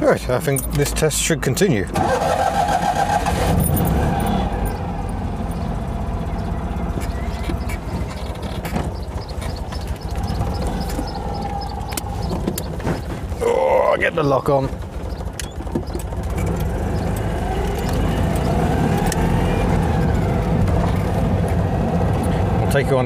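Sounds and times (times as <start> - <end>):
car engine driving off: 0.7 - 23.0.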